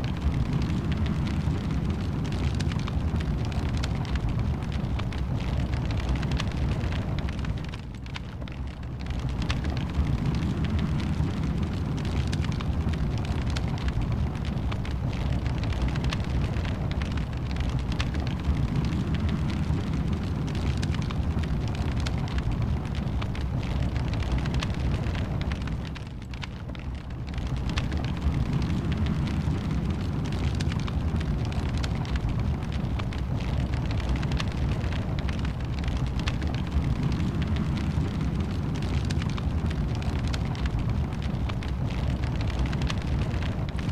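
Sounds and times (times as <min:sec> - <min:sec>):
fire crackling and popping: 0:00.0 - 0:43.9
fire flames rumbling: 0:00.0 - 0:43.9.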